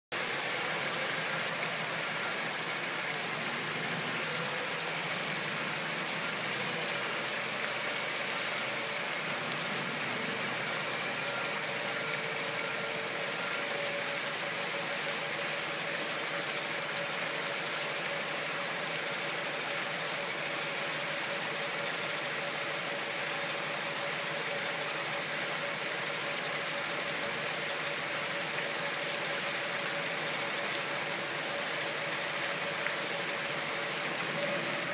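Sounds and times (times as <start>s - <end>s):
floodwater rushing: 0.1s - 34.9s.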